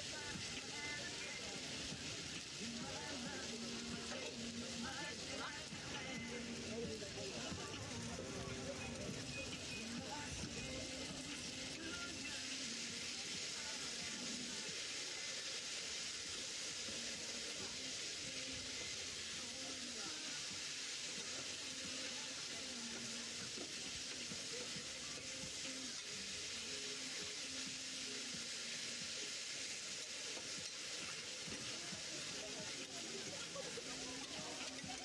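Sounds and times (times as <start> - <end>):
food sizzling on a griddle: 0.0 - 35.0.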